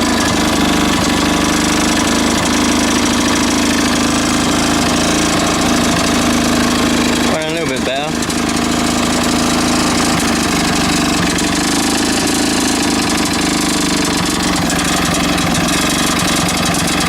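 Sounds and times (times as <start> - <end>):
engine knocking: 0.0 - 17.0
lawn mower engine running: 0.0 - 17.0.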